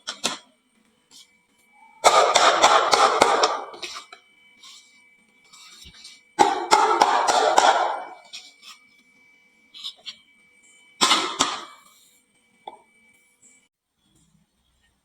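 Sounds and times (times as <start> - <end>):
thin steady high tone: 0.0 - 15.0.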